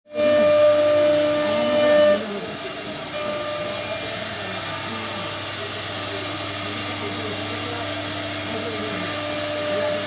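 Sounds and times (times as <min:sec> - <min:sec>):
cnc router spindle whining: 0:00.1 - 0:10.0.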